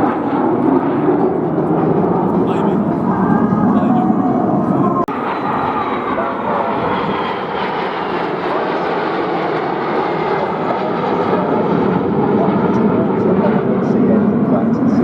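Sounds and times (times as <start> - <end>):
aircraft engine flying past: 0.0 - 15.0.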